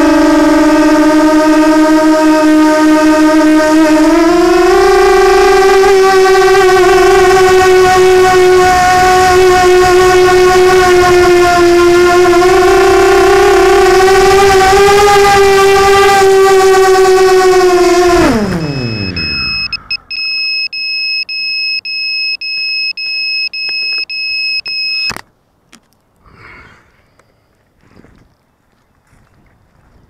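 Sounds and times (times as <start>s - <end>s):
quadcopter motors whining: 0.0s - 25.1s.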